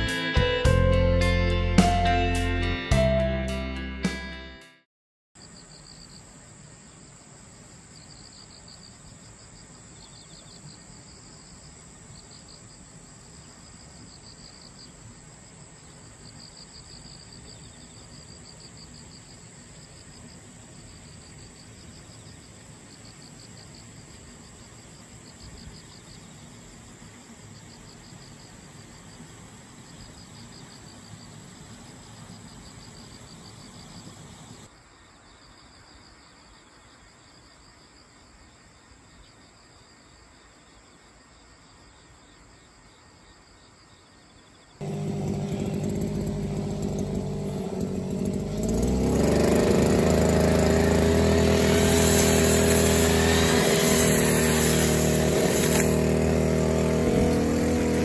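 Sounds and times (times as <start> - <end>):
insects trilling: 5.4 - 37.8, 41.8 - 58.0.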